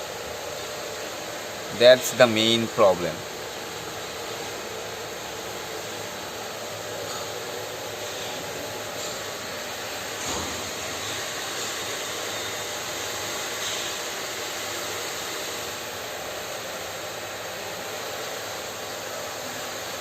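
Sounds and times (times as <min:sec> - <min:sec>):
steady hiss: 0:00.0 - 0:16.6.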